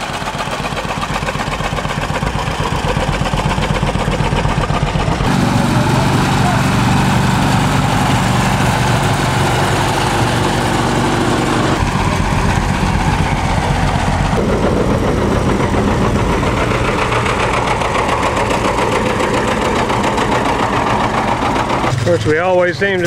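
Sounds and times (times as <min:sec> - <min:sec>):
tractor engines running: 0:00.0 - 0:23.0.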